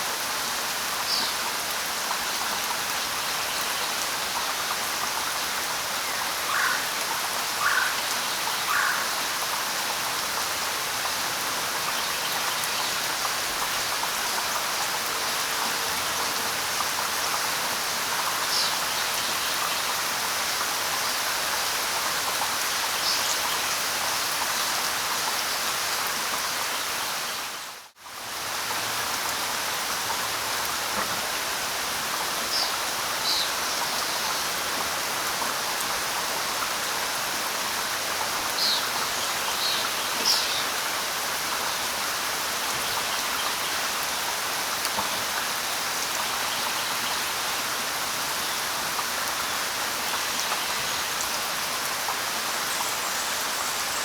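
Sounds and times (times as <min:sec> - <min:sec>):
light rain pattering: 0:00.0 - 0:54.0.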